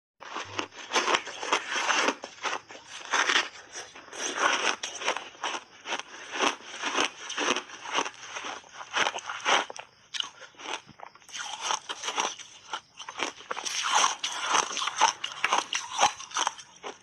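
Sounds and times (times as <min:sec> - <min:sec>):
ice being bitten and chewed: 0:00.2 - 0:17.0.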